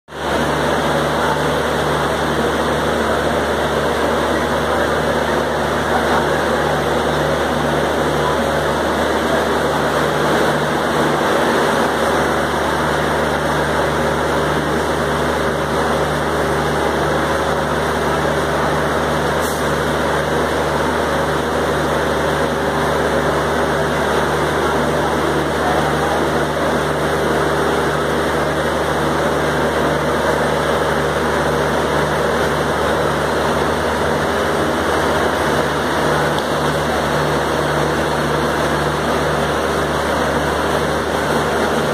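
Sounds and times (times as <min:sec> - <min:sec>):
train engine idling hum: 0:00.1 - 0:41.9.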